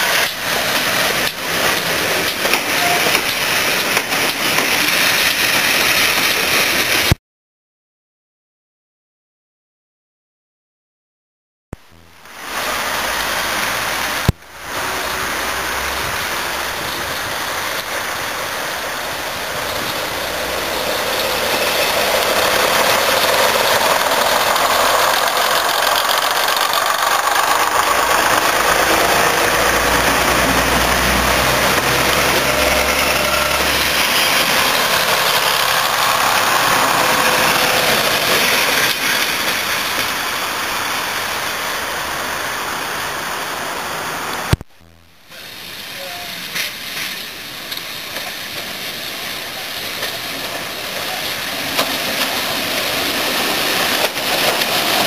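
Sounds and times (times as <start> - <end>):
diesel train engines running: 0.0 - 7.1, 12.4 - 44.5, 45.3 - 55.0
train wheels rolling: 0.0 - 7.1, 12.8 - 43.8, 45.6 - 55.0.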